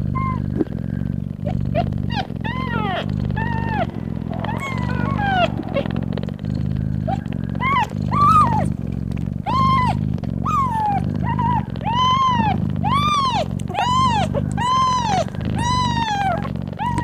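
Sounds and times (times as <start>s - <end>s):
cat purring: 0.0s - 17.0s
kittens mewing: 0.0s - 17.0s.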